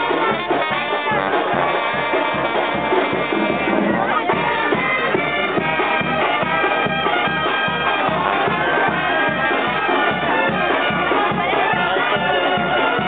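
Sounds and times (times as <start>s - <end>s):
low drum beat: 0.0s - 13.0s
wind band horns and reeds: 0.0s - 13.0s.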